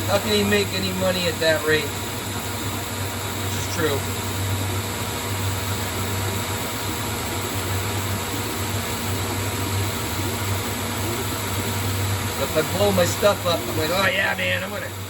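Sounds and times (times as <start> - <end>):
lathe humming: 0.0 - 15.0.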